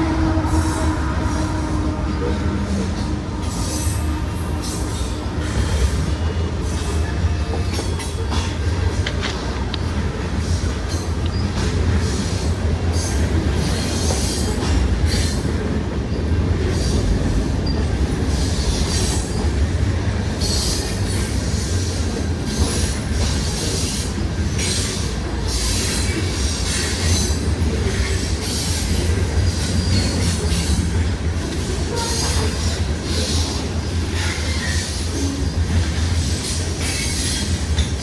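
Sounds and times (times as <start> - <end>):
train cars rumbling past: 0.0 - 38.0
wheels squealing on rails: 0.0 - 38.0.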